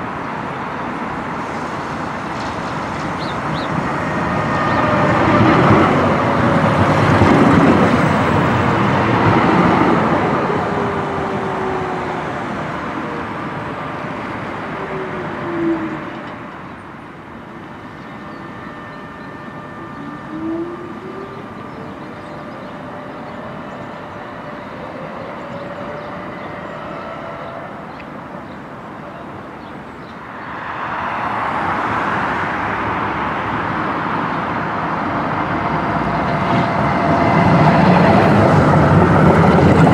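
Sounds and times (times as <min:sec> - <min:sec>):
tram traction motor whine: 0:00.0 - 0:39.9
tram wheel and rolling noise: 0:00.0 - 0:39.9.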